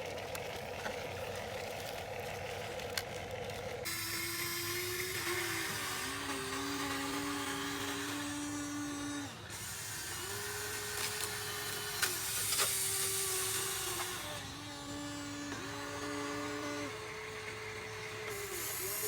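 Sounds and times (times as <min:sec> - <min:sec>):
small electric motors whining: 0:02.8 - 0:19.0.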